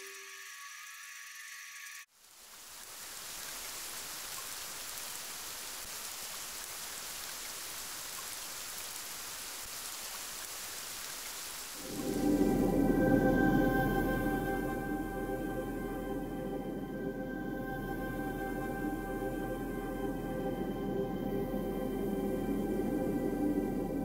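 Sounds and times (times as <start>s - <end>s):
steady rain hiss: 2.1s - 24.0s.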